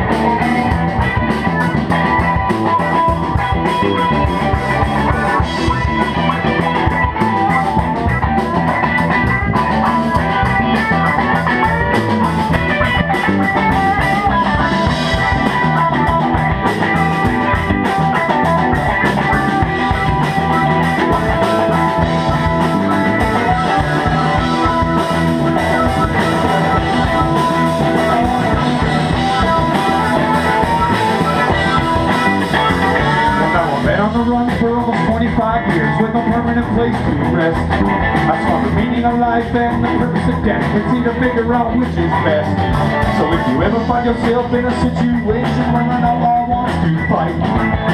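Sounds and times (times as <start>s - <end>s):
bass guitar: 0.0s - 47.9s
drum kit: 0.0s - 47.9s
electric guitar: 0.0s - 47.9s
keyboard: 0.0s - 47.9s.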